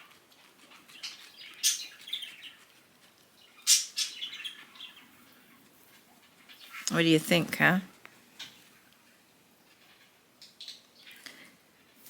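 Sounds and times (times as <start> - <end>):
bird chirping: 0.6 - 8.8, 9.7 - 11.4.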